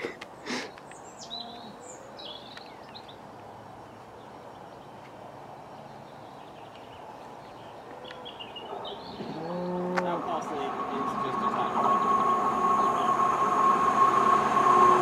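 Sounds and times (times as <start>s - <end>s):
birds chirping: 0.0s - 14.6s
outdoor background hum: 0.0s - 15.0s.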